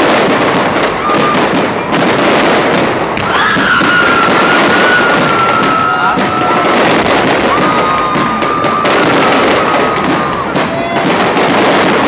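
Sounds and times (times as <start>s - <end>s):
fireworks bangs and crackling: 0.0s - 12.0s
long high firework whistle: 0.0s - 12.0s.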